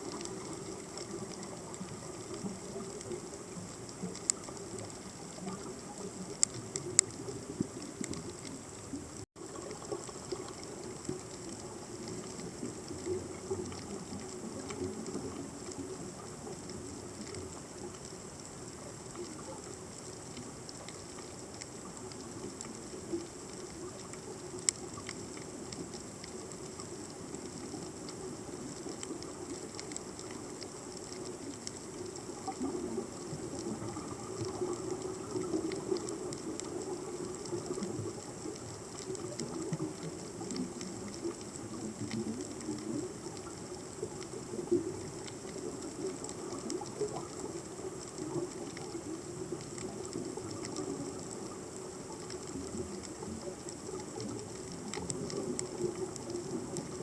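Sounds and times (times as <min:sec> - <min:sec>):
low underwater rumble: 0:00.0 - 0:57.0
underwater crackle of clicks: 0:00.0 - 0:57.0.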